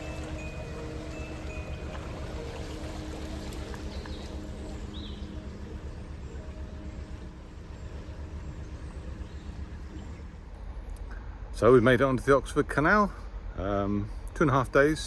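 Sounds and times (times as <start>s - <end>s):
boat diesel engine rumbling: 0.0s - 13.0s.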